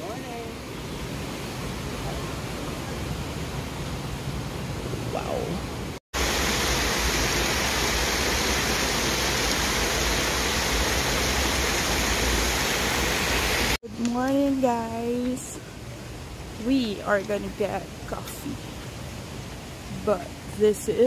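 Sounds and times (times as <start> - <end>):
rushing water: 0.0 - 14.1, 15.5 - 21.0.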